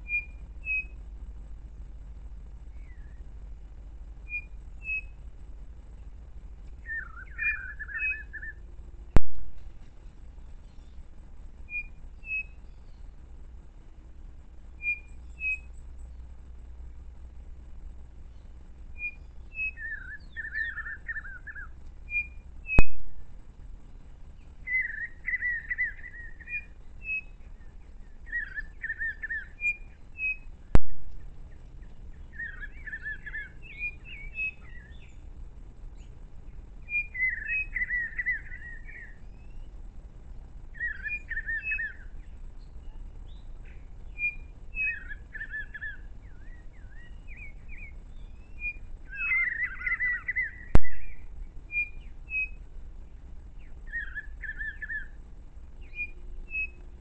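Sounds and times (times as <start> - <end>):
songbird warbling: 0.0 - 57.0.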